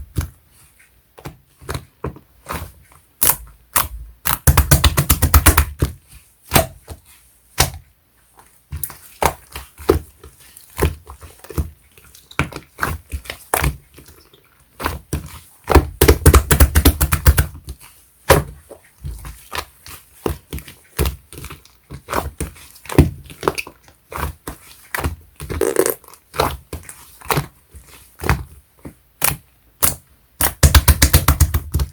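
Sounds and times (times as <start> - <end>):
slime squishing: 0.0 - 7.9, 8.5 - 31.9.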